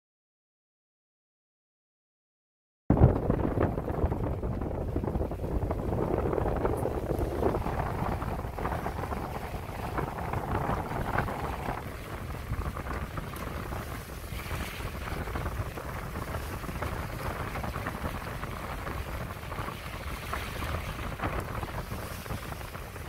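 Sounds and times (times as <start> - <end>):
water splashing along boat hull: 2.9 - 23.0
wind noise on microphone: 2.9 - 23.0.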